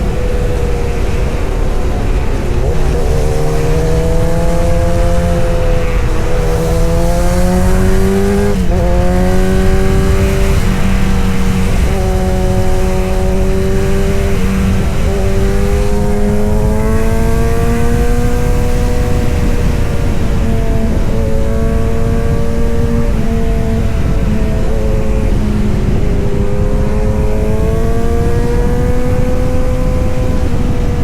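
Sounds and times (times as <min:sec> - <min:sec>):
motorcycle engine and exhaust running: 0:00.0 - 0:31.0.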